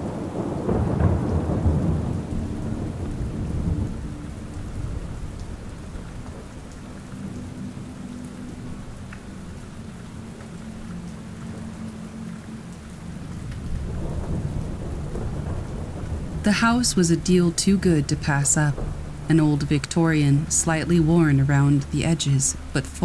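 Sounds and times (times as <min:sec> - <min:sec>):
steady rain: 0:00.0 - 0:23.0
thunder rumble: 0:00.0 - 0:23.0.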